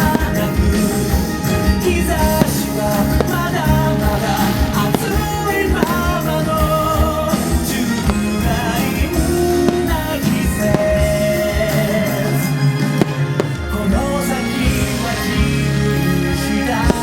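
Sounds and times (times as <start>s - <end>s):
pop-rock song with singing: 0.0s - 17.0s.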